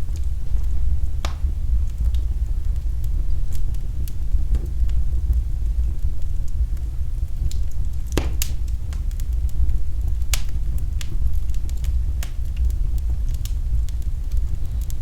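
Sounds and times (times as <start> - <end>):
fire pops: 0.0 - 15.0
wood fire crackling: 0.0 - 15.0.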